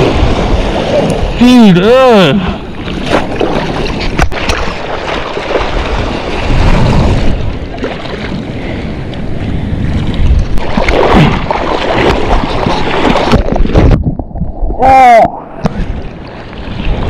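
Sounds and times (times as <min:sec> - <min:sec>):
water sloshing and splashing: 0:00.0 - 0:14.8, 0:15.5 - 0:17.0
wind buffeting microphone: 0:02.3 - 0:17.0.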